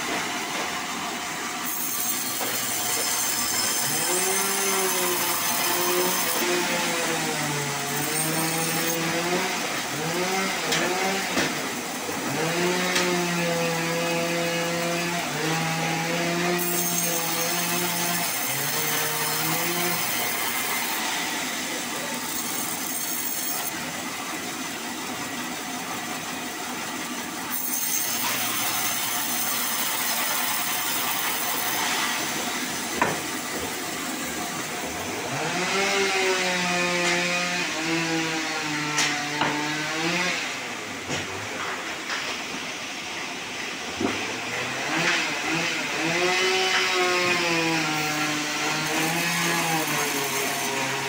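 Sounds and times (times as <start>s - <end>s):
band saw machine hum: 0.0s - 51.0s.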